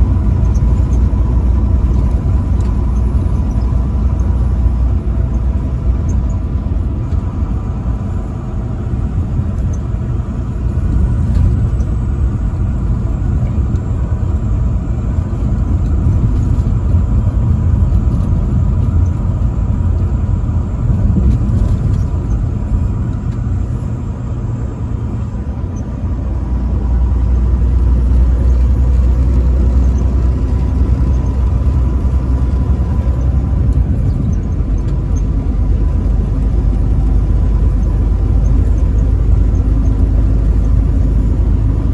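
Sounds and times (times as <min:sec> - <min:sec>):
truck engine and road rumble: 0:00.0 - 0:41.9.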